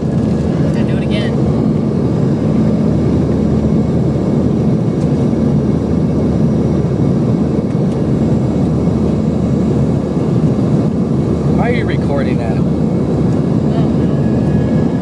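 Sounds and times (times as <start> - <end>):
airliner engine and airflow noise: 0.0 - 15.0.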